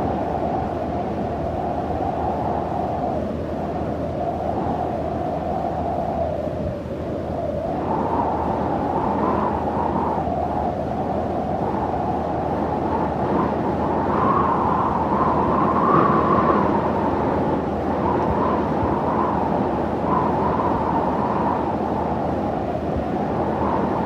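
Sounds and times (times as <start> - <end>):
low rushing desert wind: 0.0 - 24.0.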